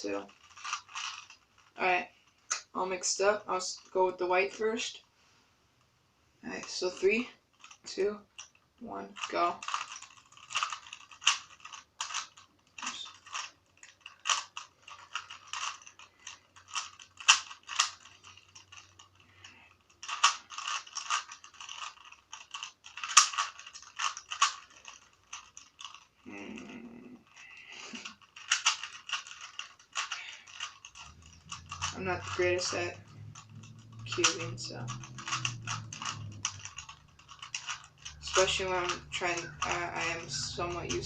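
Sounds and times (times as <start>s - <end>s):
puzzle cube layers clacking: 0.0s - 4.8s, 6.5s - 41.0s.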